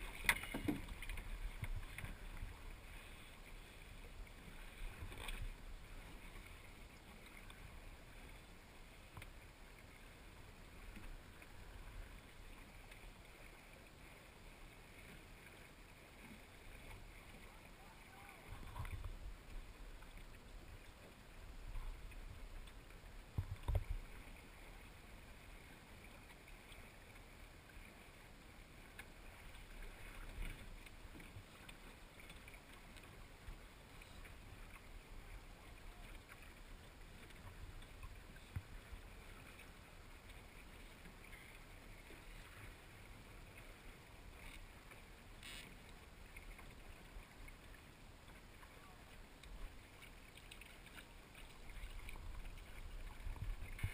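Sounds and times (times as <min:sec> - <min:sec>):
water lapping against a hull: 0:00.0 - 0:53.9.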